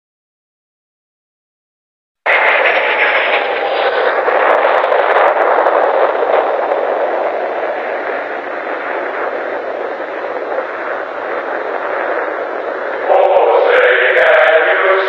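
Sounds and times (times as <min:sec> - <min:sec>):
jet engine roaring: 0:02.3 - 0:15.0.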